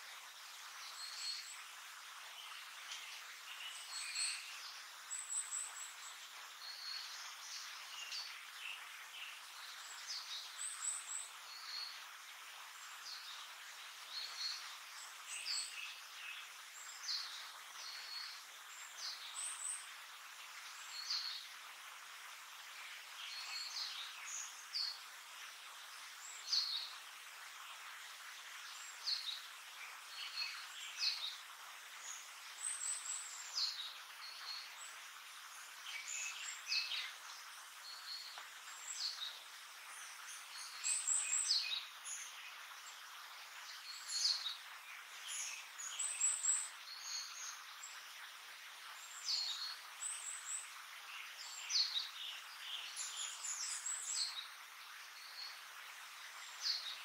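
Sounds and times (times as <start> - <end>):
faint forest hiss: 0.0 - 57.0.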